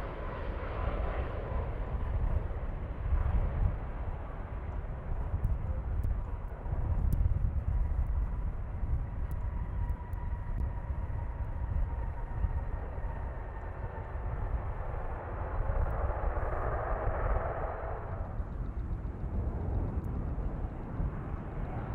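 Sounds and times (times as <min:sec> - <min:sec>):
jet engine rumble with whine: 0:00.0 - 0:21.9.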